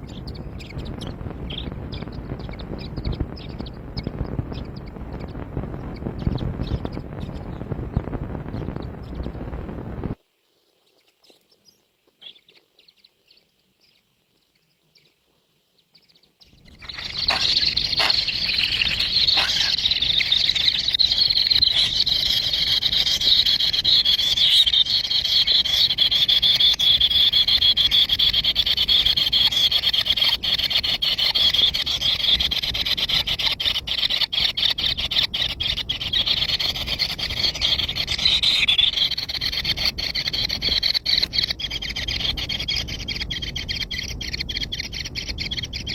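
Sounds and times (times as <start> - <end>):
chorus of small birds chirping: 0.0 - 45.9.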